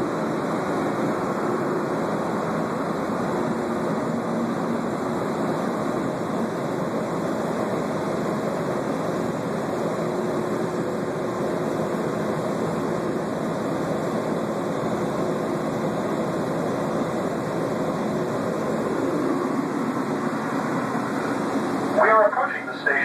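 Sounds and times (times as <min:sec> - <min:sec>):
monorail car running: 0:00.0 - 0:23.0.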